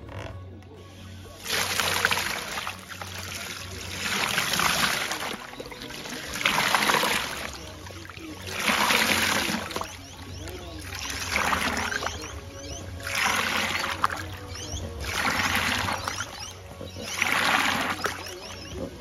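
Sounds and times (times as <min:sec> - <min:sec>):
water surging and splashing into tub: 0:01.3 - 0:19.0.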